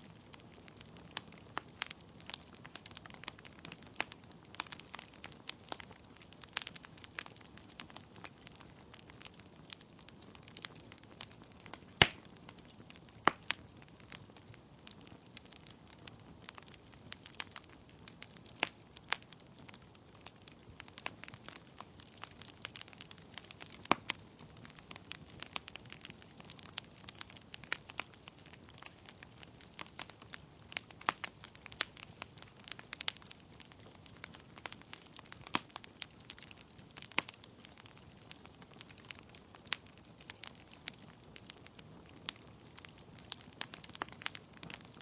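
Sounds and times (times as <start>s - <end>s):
burning logs crackling and popping: 0.0s - 45.0s
wood fire hissing: 0.0s - 45.0s.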